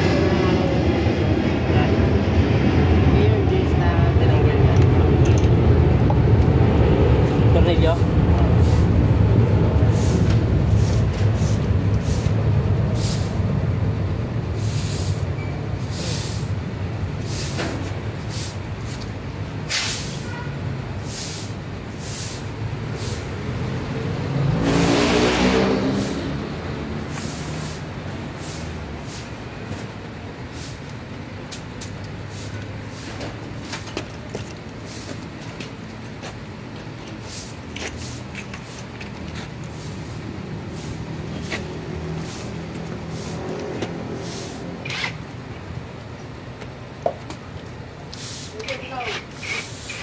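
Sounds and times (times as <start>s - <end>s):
low vehicle engine rumble: 0.0s - 50.0s
vehicle passing: 0.0s - 50.0s.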